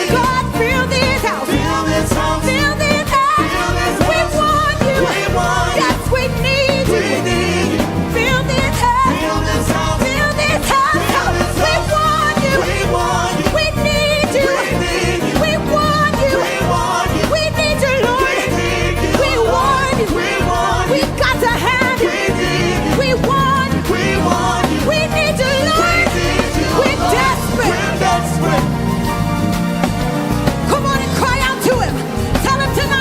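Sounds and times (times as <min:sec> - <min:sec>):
singing: 0:00.0 - 0:28.7
live gospel band playing: 0:00.0 - 0:33.0.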